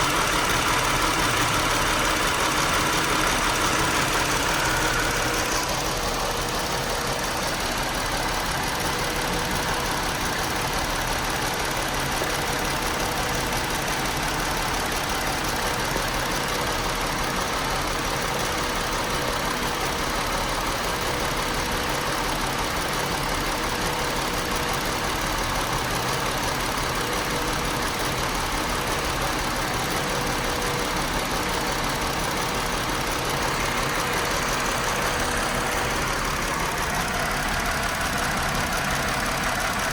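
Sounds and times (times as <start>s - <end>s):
car engine rough idle: 0.0s - 39.9s.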